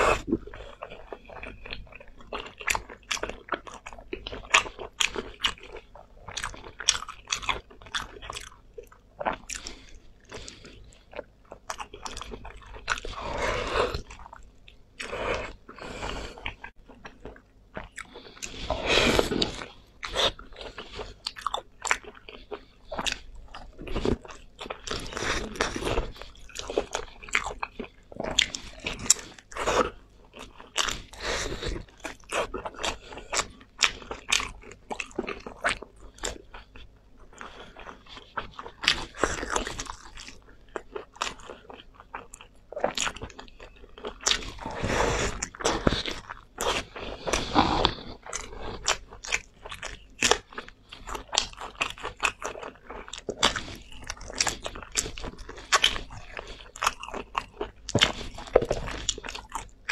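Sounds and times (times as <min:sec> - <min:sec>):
person chewing meat: 0:00.0 - 0:59.9.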